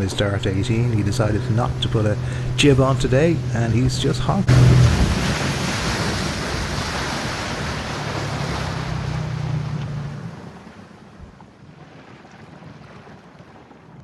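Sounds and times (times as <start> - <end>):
water rushing past boat: 0.0 - 14.0.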